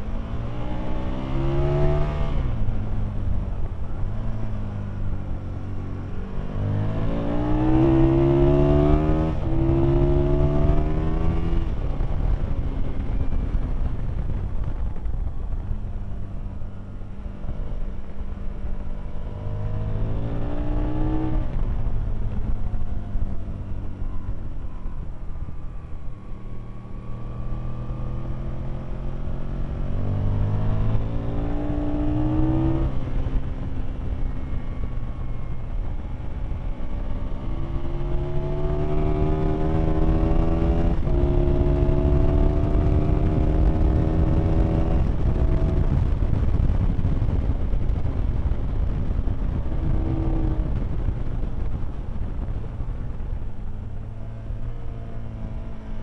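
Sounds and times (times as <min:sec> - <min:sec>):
motorcycle engine revving through gears: 0:00.0 - 0:56.0
wind rumble on microphone: 0:00.0 - 0:56.0.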